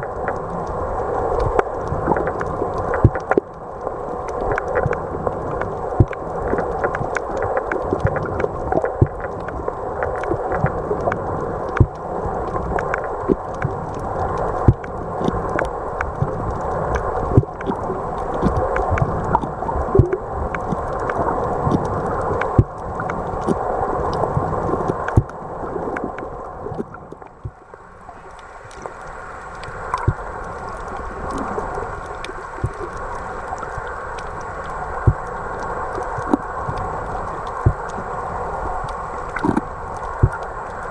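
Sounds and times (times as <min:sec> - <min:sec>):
sharp clicks and crackles: 0:00.0 - 0:38.0, 0:38.8 - 0:40.8
water gurgling underwater: 0:00.0 - 0:40.9.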